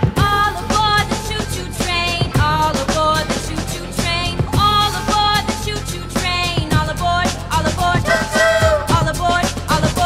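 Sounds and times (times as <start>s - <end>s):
upbeat music with drum beat: 0.0s - 10.0s.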